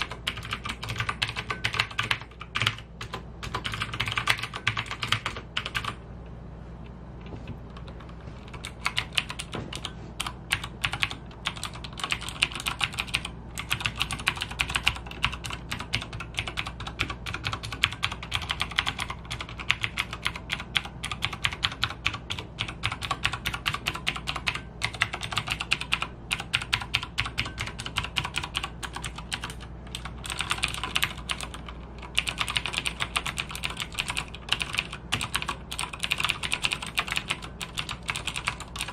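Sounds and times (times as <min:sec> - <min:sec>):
clicky mechanical keyboard typing: 0:00.0 - 0:06.0, 0:07.7 - 0:38.9.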